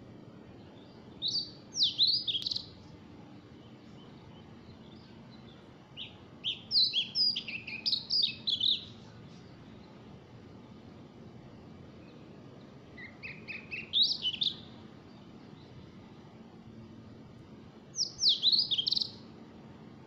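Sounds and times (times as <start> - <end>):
songbird chirping: 0.0 - 11.1, 11.7 - 16.9, 18.0 - 19.4
faint background hiss: 0.0 - 20.0.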